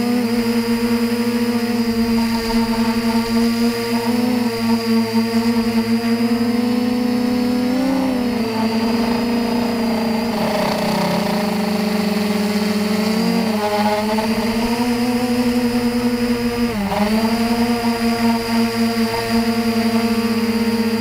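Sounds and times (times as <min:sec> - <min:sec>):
quadcopter propellers humming: 0:00.0 - 0:21.0.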